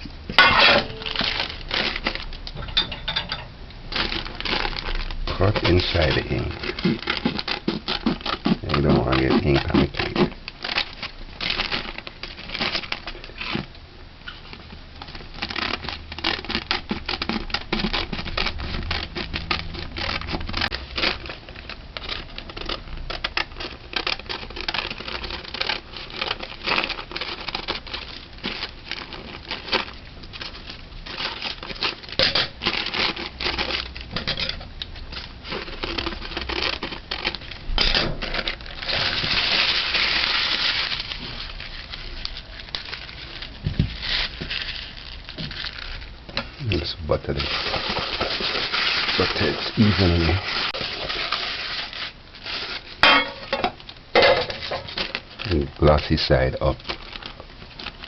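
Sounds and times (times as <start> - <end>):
baking paper crinkling: 0.0 - 58.0.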